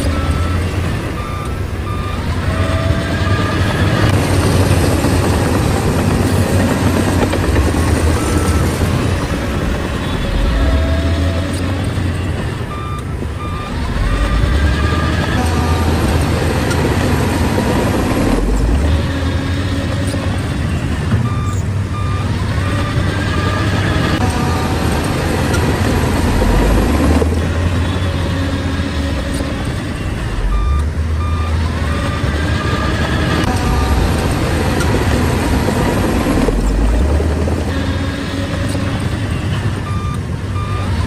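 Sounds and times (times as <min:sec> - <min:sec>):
bulldozer diesel engine droning: 0:00.0 - 0:41.0
reversing alarm beeping: 0:00.0 - 0:41.0.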